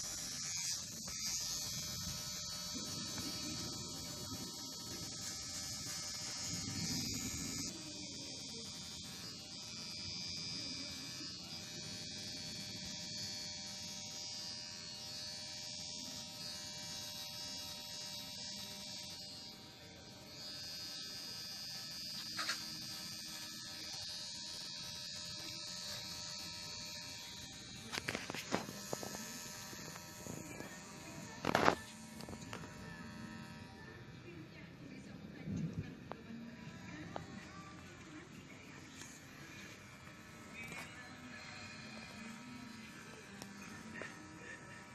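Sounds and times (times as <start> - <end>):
electric hair clipper running: 0.0 - 35.1, 36.0 - 44.9.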